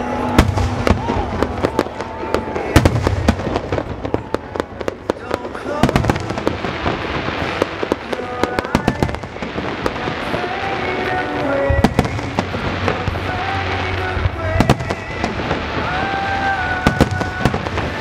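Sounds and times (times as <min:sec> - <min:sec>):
fireworks bangs and pops: 0:00.0 - 0:18.0.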